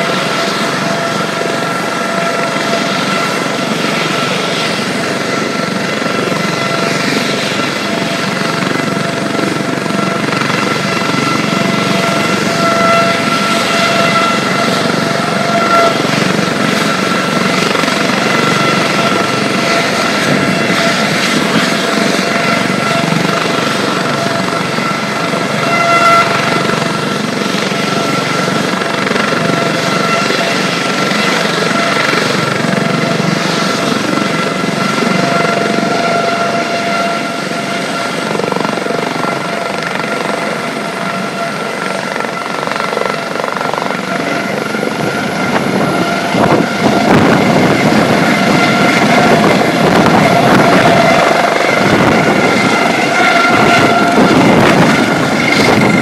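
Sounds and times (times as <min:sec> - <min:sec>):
helicopter engine whine: 0:00.0 - 0:56.0
helicopter rotors turning: 0:00.0 - 0:56.0.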